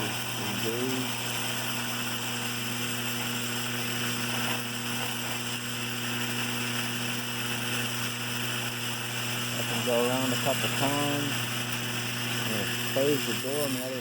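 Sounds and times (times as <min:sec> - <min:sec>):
vibrator mechanism buzzing: 0:00.0 - 0:14.0.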